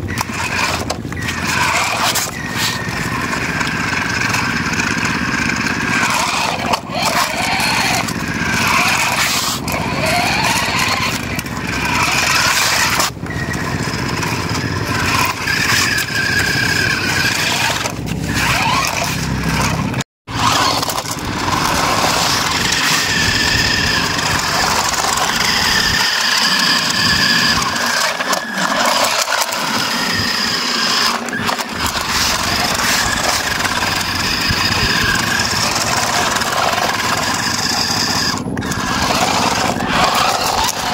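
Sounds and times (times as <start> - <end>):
tyres scrubbing on concrete: 0.0 - 13.1, 13.8 - 40.9
toy electric motors whining: 0.0 - 40.9.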